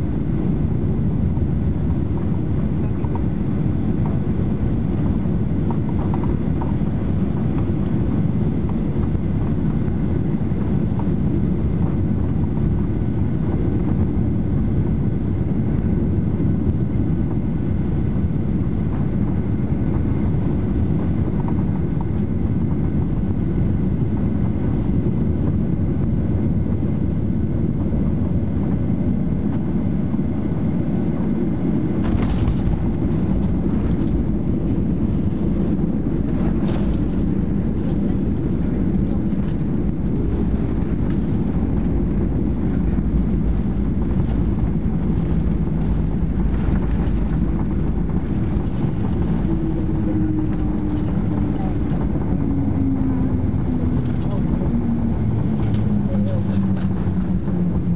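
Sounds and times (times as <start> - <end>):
aircraft engine and airflow rumble: 0.0 - 57.9
faint steady whine: 0.0 - 57.9.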